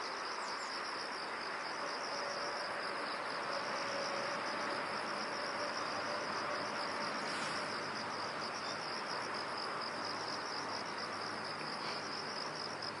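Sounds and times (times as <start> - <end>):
crickets trilling: 0.0 - 13.0
night ambience hiss: 0.0 - 13.0.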